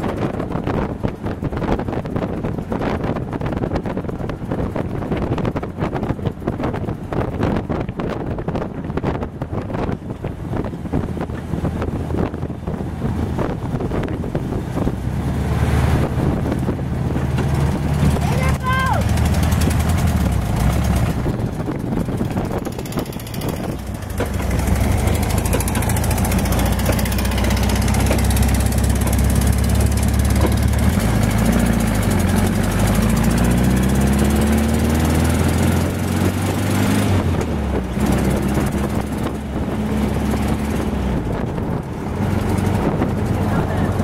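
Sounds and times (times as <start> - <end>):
dune buggy engine running: 0.0 - 44.0.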